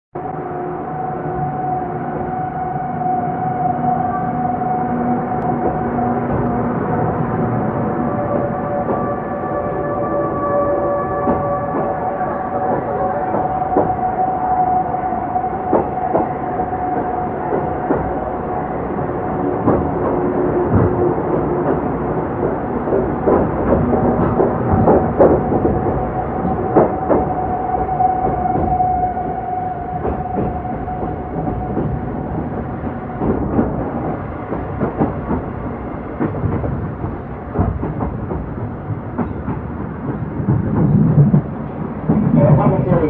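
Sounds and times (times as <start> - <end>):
train coach rumbling on rails: 0.2 - 43.0.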